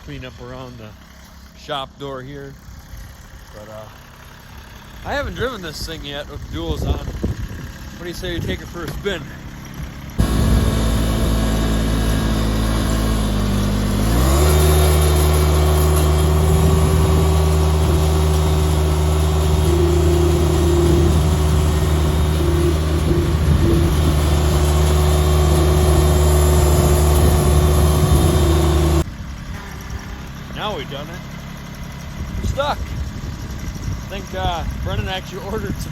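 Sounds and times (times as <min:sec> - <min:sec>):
lawn tractor engine running: 0:00.0 - 0:35.9.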